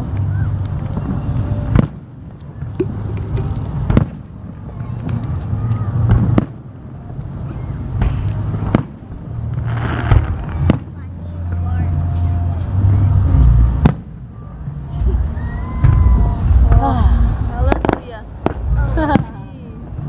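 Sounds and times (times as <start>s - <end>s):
fireworks bursting: 0.0s - 20.0s
steady low rumble: 0.0s - 20.0s.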